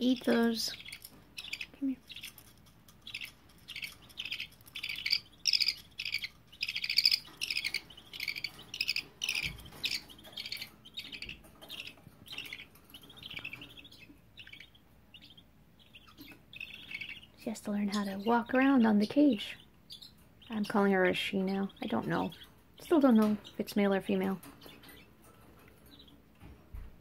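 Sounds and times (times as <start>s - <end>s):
budgies chirping: 0.0s - 26.9s.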